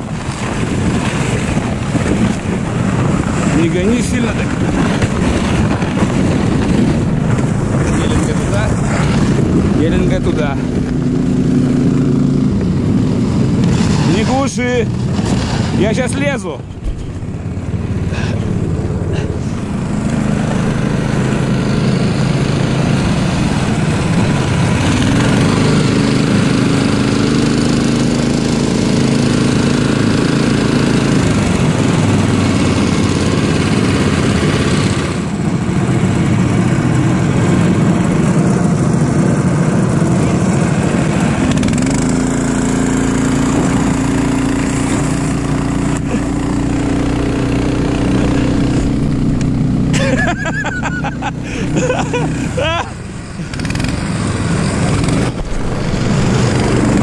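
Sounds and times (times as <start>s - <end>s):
snow tug engine running: 0.0s - 57.0s.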